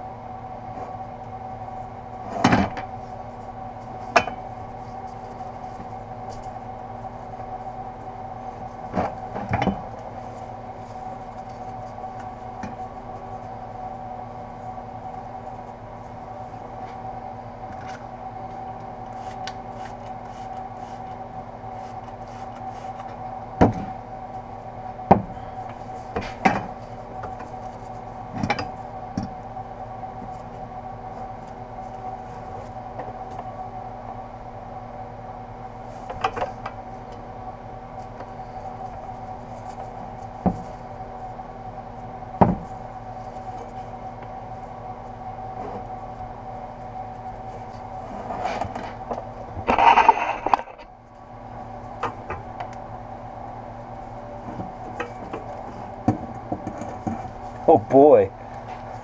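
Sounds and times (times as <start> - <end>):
steady multi-tone hum: 0.0 - 59.0.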